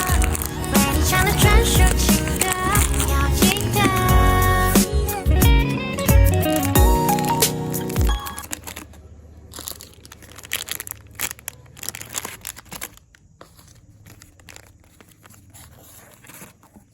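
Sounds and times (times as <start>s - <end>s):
plastic packaging crinkling: 0.0s - 5.3s, 6.1s - 16.9s.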